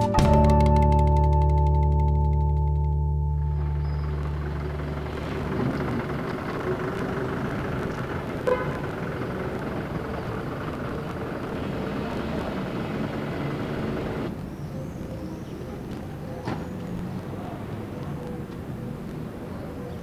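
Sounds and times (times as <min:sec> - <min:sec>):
traffic noise: 0:03.3 - 0:20.0.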